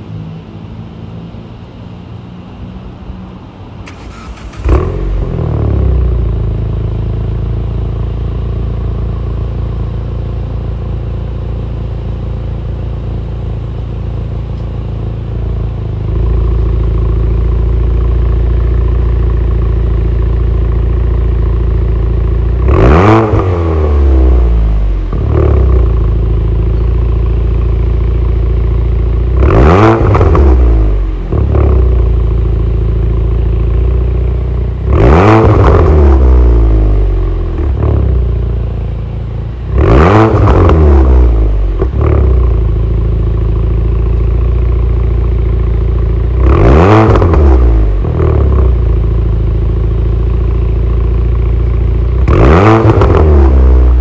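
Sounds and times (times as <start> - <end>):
car engine idling: 0.0 - 54.0
engine throttle blips: 3.7 - 54.0.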